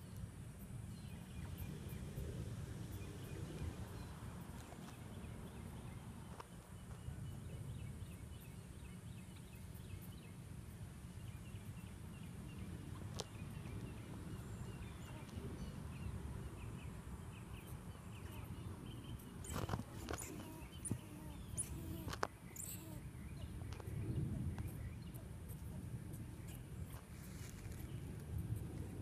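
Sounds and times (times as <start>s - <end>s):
low wind rumble: 0.0s - 29.0s.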